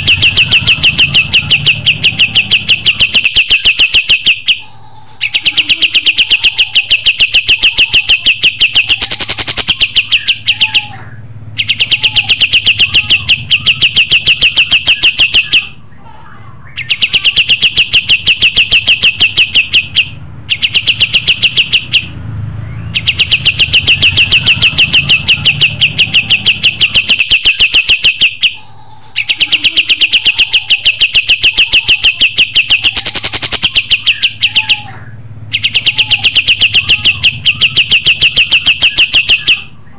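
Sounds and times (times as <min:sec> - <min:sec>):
songbird trilling: 0:00.0 - 0:15.8, 0:16.7 - 0:39.9.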